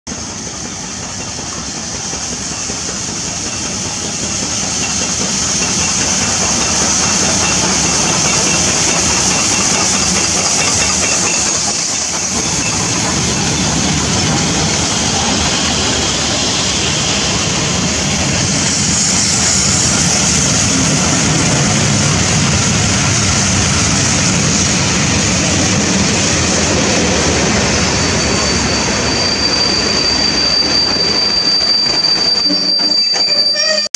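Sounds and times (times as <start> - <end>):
steam locomotive hissing: 0.1 - 33.9
train coaches rolling over rails: 0.1 - 33.9
high brake squeal: 0.6 - 21.3, 27.0 - 33.9.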